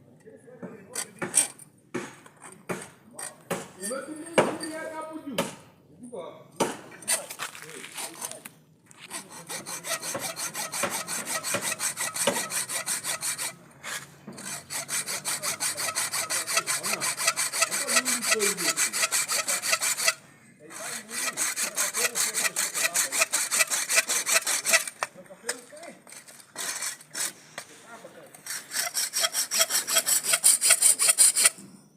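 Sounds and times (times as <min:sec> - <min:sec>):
hacksaw cutting metal pipe: 0:00.9 - 0:04.7, 0:06.6 - 0:08.4, 0:09.0 - 0:27.7, 0:28.3 - 0:31.7.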